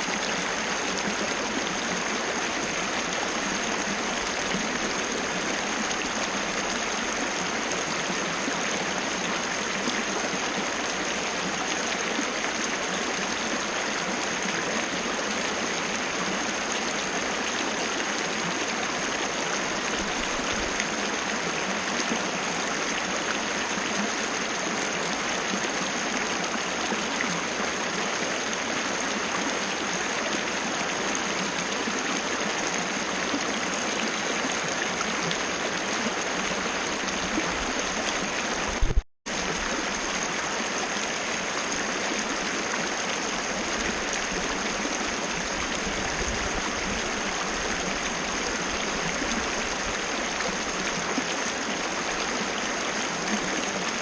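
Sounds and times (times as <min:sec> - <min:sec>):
waterfall splashing and rushing: 0:00.0 - 0:54.0.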